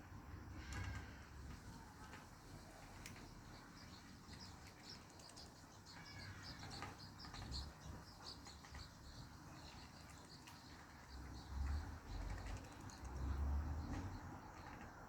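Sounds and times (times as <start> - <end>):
faint chirping of small birds: 0.0 - 15.0.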